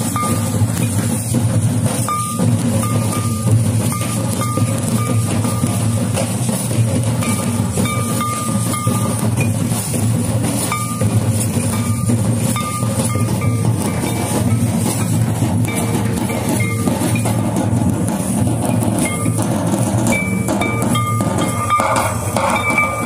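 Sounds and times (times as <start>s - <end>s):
short high ringing notes: 0.0s - 0.9s, 2.0s - 10.0s, 10.6s - 17.6s, 19.0s - 23.0s
barrel drums beating dance rhythm: 0.0s - 23.0s.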